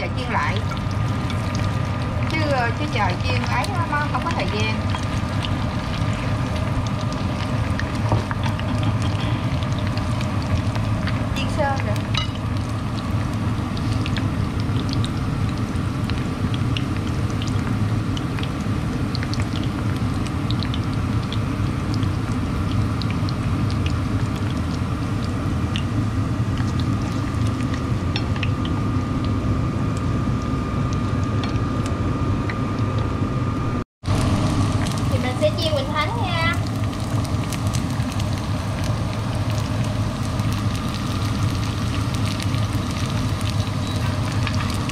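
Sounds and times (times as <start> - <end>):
oil sizzling with crackles and pops: 0.0 - 33.1, 34.0 - 44.9.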